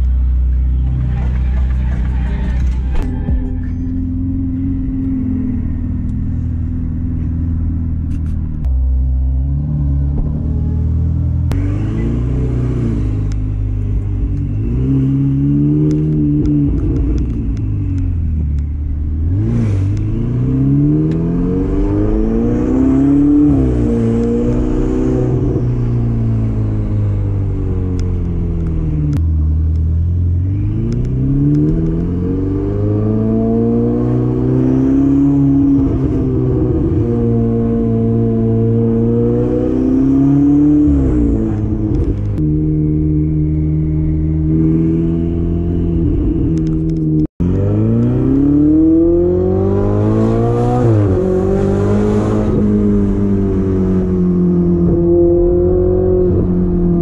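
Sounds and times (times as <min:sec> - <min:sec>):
sports car engine: 0:00.0 - 0:57.0.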